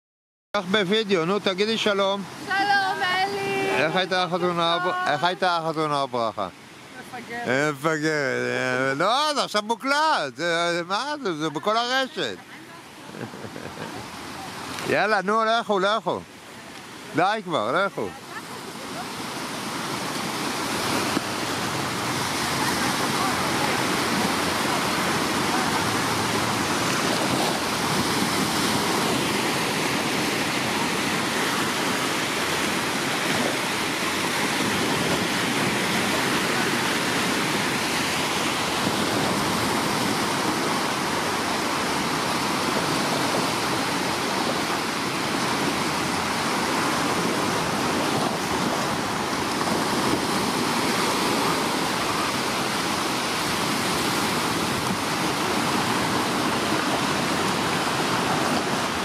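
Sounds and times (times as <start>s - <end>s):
sea surf breaking on shore: 0.6s - 59.0s.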